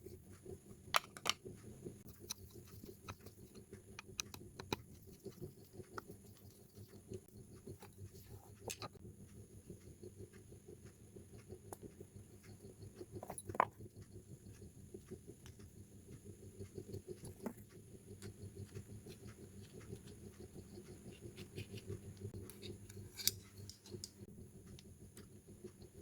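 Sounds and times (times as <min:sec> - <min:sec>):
faint clicks and taps: 0:00.0 - 0:26.0.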